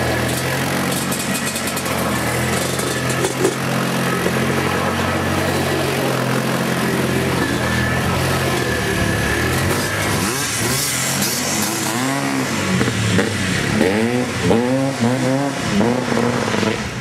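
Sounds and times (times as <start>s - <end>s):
quad engine running: 0.0s - 17.0s.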